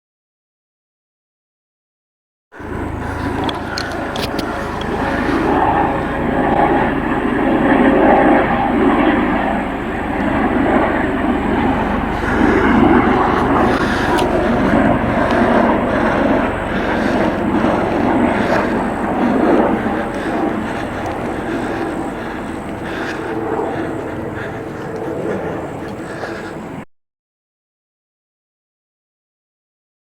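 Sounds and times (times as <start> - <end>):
helicopter engine and rotor: 2.6 - 26.8.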